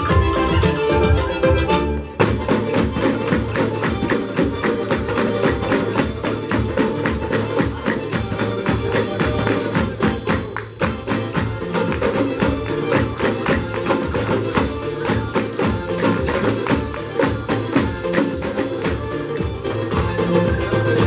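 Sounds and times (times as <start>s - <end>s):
folk dance music: 0.0s - 21.0s
tambourines and hand percussion: 2.0s - 21.0s.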